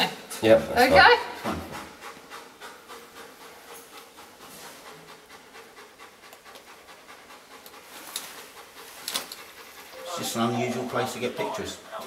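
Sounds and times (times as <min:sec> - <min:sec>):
dog panting quickly: 0:00.1 - 0:12.0.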